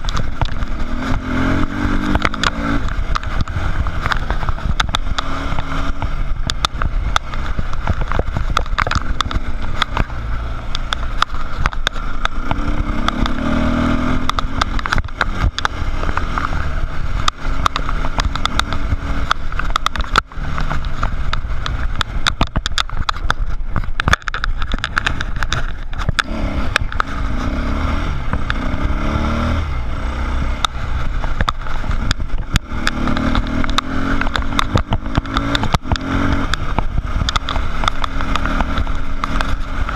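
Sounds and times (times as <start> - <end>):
dirt bike engine revving: 0.0 - 22.4, 24.9 - 39.9
knocks and clatter over bumps: 0.0 - 39.9.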